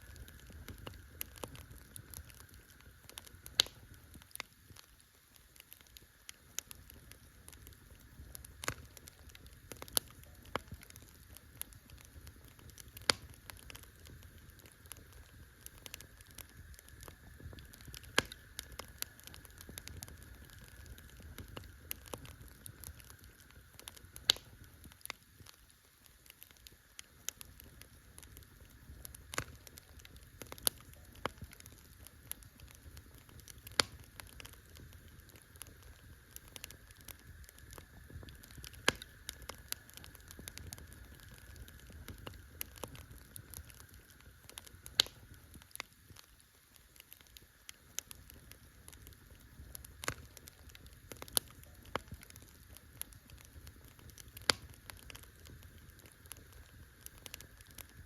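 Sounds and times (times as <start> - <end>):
campfire crackling: 0.0 - 58.0
faint steady hiss: 0.0 - 58.0.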